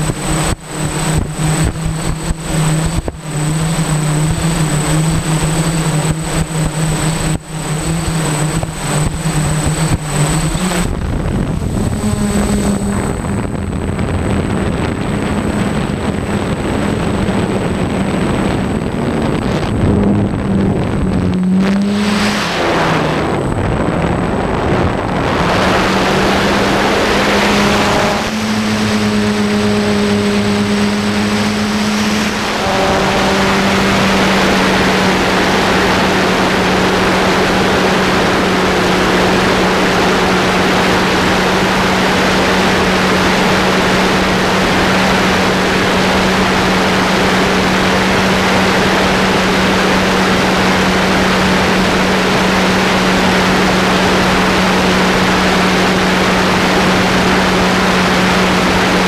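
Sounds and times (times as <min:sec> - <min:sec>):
drone motors humming: 0:00.0 - 0:59.0
thin high whine: 0:00.0 - 0:59.0
wind rush on microphone: 0:00.0 - 0:59.0.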